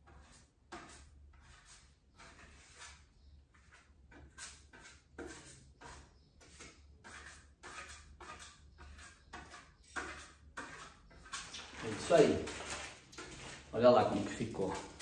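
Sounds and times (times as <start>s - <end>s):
painting tool rubbing on wall: 0.0s - 15.0s.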